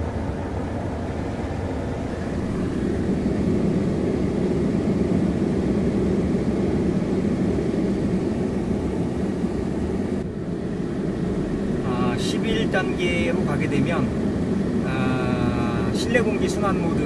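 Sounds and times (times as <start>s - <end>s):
fan blower rush of air: 0.0s - 17.0s.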